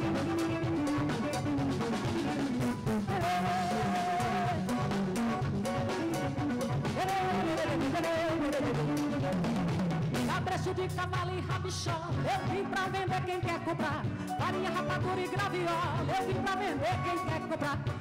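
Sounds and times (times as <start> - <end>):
bass notes: 0.0 - 17.3
drum kit beat: 0.0 - 18.0
guitar: 0.0 - 18.0
held melody line: 0.0 - 18.0.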